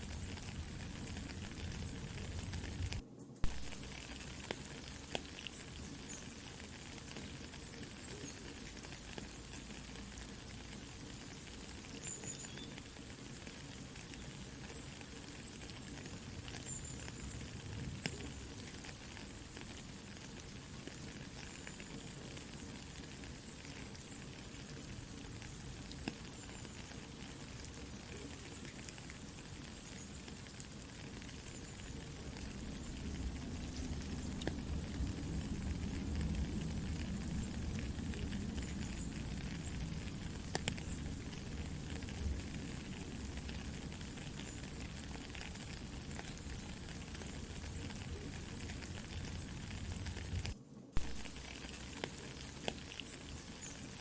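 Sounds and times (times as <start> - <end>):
campfire crackling: 0.0 - 54.0
soft steady rain: 0.0 - 54.0.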